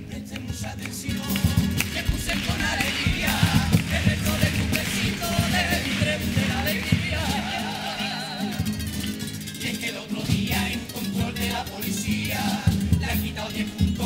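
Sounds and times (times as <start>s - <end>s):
group singing: 0.0s - 14.0s
percussion: 0.0s - 14.0s
strummed guitars: 0.0s - 14.0s.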